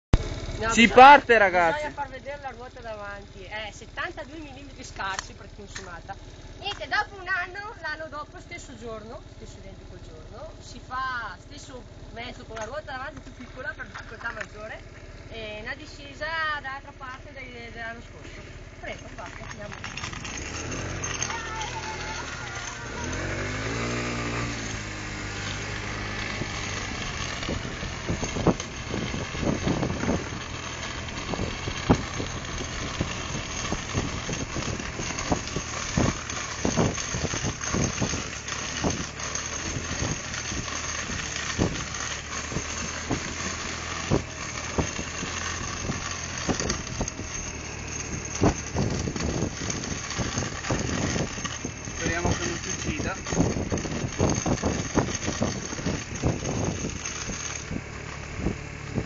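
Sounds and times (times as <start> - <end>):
scooter wheels rumbling on asphalt: 0.0 - 59.0.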